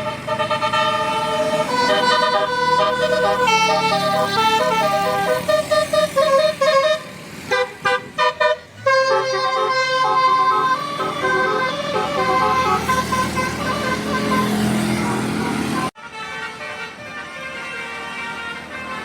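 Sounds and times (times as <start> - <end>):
musical bus horn playing a tune: 0.0 - 19.0.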